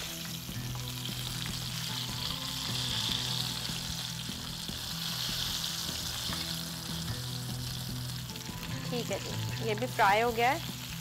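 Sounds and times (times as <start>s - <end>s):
chicken wings sizzling in oil: 0.0s - 11.0s.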